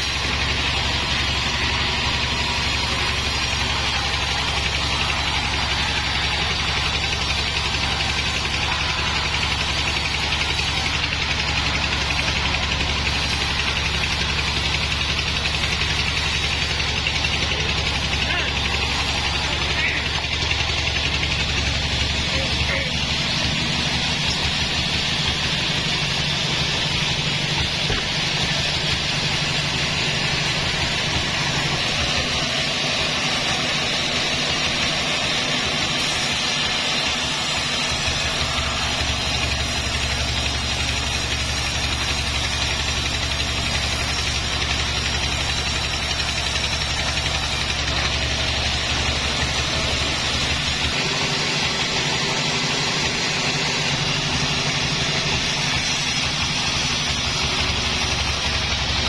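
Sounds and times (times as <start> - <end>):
sawmill saw motor running: 0.0 - 59.0.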